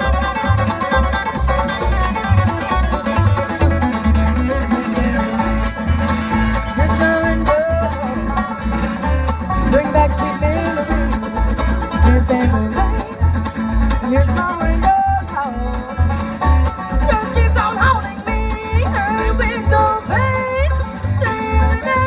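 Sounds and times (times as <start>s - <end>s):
acoustic guitar: 0.0s - 22.0s
banjo: 0.0s - 22.0s
mandolin: 0.0s - 22.0s
upright bass plucking: 0.0s - 22.0s.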